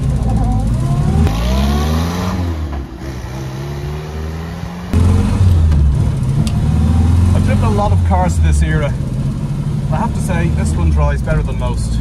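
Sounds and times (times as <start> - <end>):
car engine pulling away: 0.0 - 11.6.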